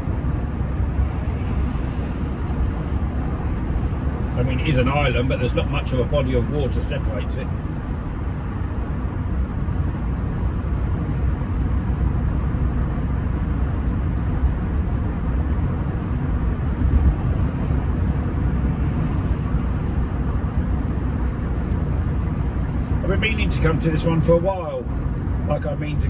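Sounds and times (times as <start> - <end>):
low road and engine rumble: 0.0 - 26.0.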